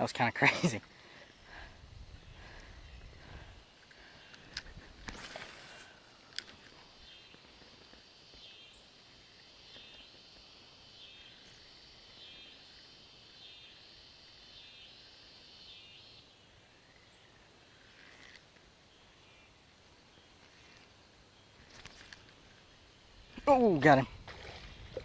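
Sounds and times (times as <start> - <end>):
faint outdoor ambience: 0.0 - 25.0.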